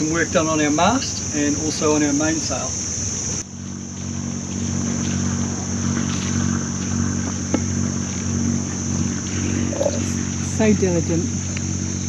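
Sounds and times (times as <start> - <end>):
boat engine idling: 0.0 - 12.0
insects droning: 0.0 - 12.0.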